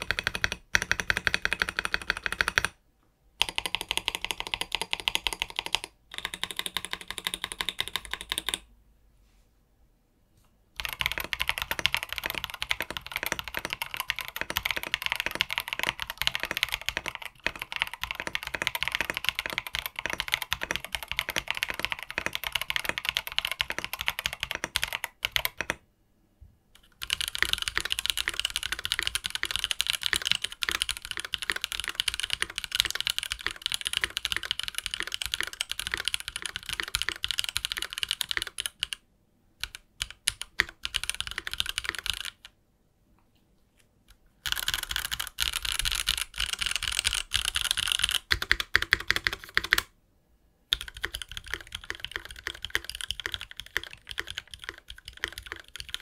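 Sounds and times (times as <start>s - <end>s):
fast typing on mechanical keyboard: 0.0s - 2.8s, 3.4s - 8.6s, 10.8s - 25.8s, 26.8s - 39.0s, 39.6s - 42.5s, 44.4s - 49.9s, 50.7s - 56.0s.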